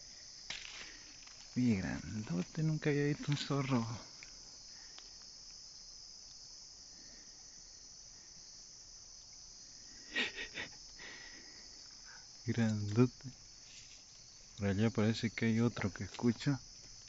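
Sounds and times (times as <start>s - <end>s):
crickets and night insects chirping: 0.0s - 17.0s.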